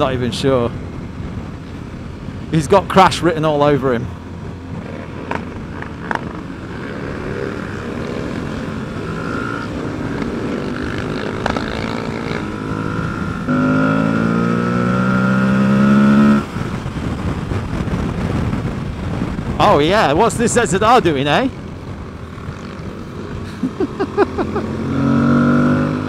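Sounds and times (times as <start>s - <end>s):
motorcycle engine accelerating: 4.4s - 26.0s.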